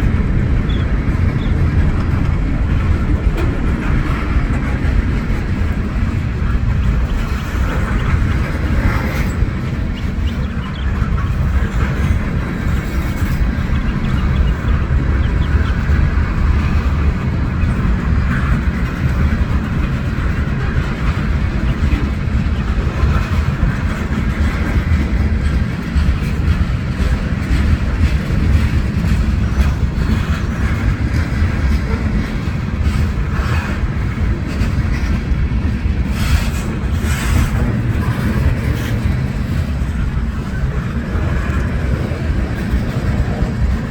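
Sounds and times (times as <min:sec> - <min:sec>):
train rail cars rumbling: 0:00.0 - 0:43.9.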